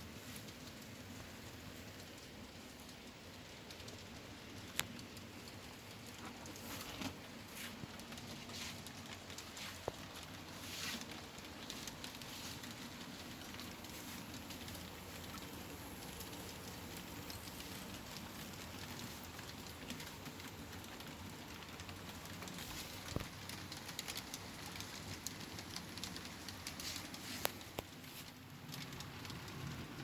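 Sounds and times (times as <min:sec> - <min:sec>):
model trains rolling on track: 0:00.0 - 0:30.0
wheels crackling ticks: 0:00.0 - 0:30.0.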